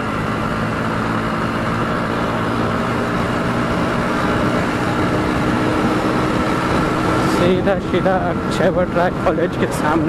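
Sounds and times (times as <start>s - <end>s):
motorcycle engine running: 0.0s - 10.0s
road and wind noise: 0.0s - 10.0s.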